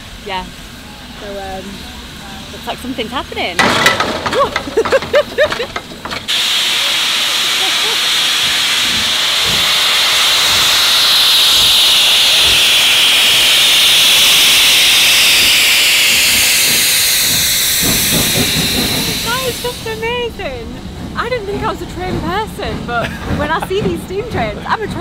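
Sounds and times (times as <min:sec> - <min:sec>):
steam locomotive hissing steam: 0:00.0 - 0:25.0.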